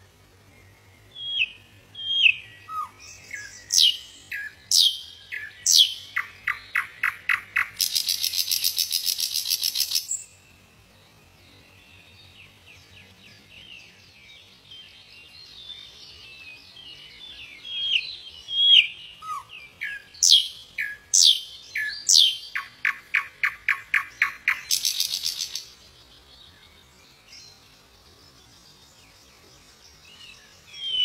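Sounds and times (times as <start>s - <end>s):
nightingale singing: 0.5s - 31.0s.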